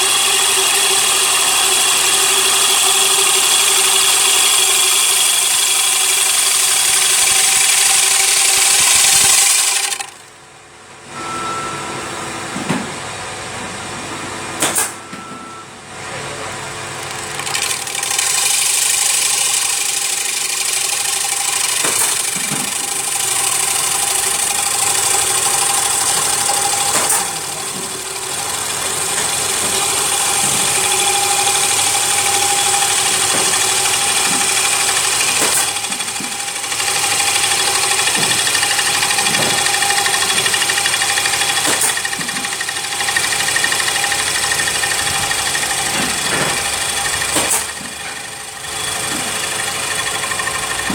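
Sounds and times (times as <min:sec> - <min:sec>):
wood lathe humming with hiss: 0:00.0 - 0:10.3, 0:16.4 - 0:50.9.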